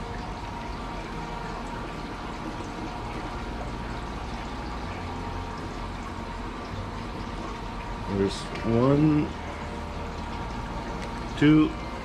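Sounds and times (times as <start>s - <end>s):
faint pump hum: 0.0s - 12.0s
water trickling and splashing: 0.0s - 12.0s.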